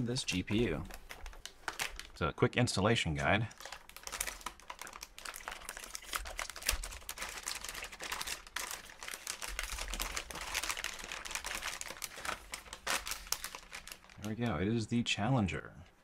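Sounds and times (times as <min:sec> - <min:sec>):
plastic bag crinkling: 0:00.0 - 0:02.2, 0:03.2 - 0:14.6.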